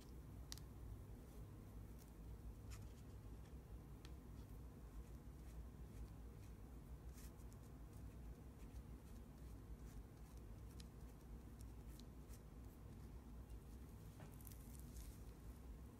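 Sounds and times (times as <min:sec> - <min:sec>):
low background hum: 0:00.0 - 0:15.9.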